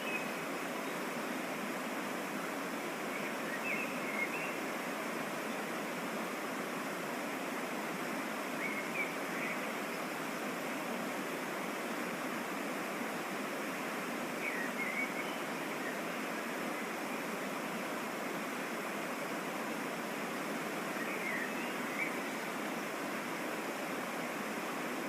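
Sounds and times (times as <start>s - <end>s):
waterfall and stream rushing: 0.0s - 25.0s.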